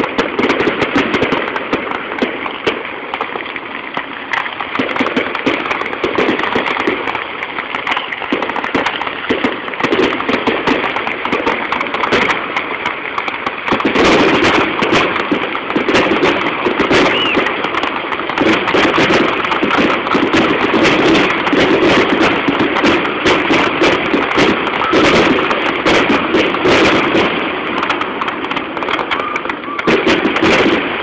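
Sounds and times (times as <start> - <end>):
fireworks crackling and banging: 0.0 - 31.0.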